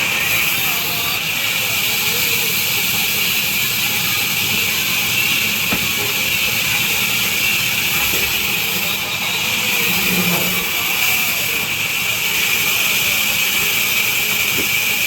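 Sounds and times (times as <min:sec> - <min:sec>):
band saw hissing: 0:00.0 - 0:15.0.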